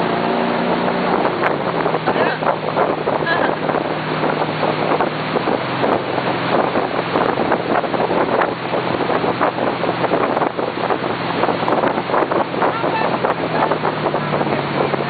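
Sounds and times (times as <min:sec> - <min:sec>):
boat engine running: 0:00.0 - 0:15.0
wake washing: 0:00.0 - 0:15.0
wind buffeting microphone: 0:00.0 - 0:15.0.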